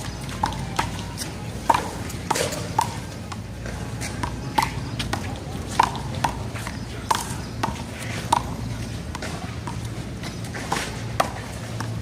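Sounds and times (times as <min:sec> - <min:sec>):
handball smacks and bounces: 0:01.6 - 0:12.0.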